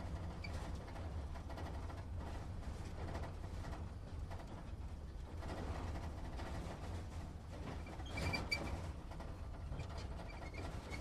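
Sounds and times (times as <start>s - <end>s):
rattles and knocks: 0.0s - 11.0s.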